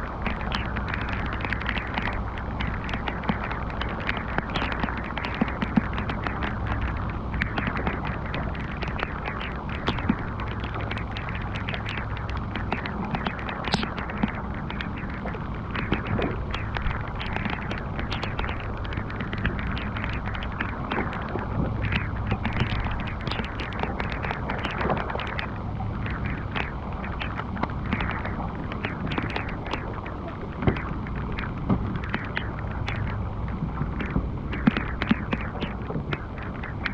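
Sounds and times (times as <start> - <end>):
heavy rain on water and boat: 0.0 - 36.9.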